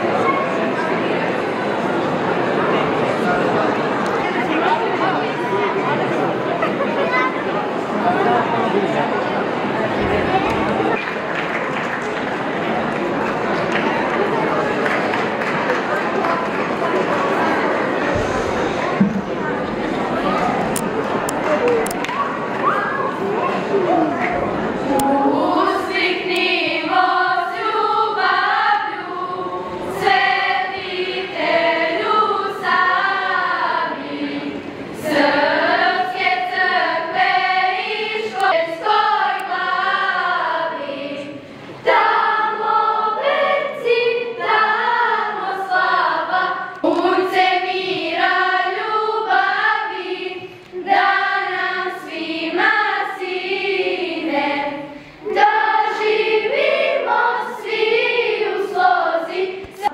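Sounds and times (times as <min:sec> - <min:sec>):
girls' choir singing: 0:00.0 - 0:06.5, 0:07.7 - 0:59.9.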